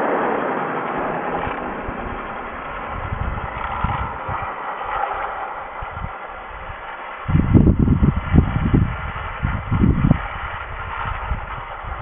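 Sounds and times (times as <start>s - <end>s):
electric lawn edger whirring: 1.3s - 12.0s.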